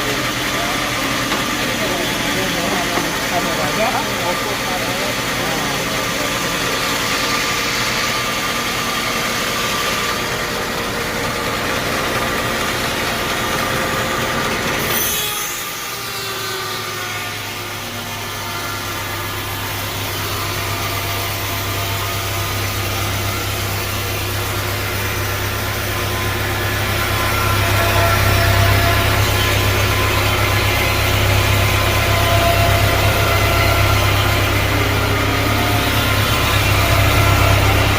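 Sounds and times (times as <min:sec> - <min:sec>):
sawmill machinery running: 0:00.0 - 0:37.9.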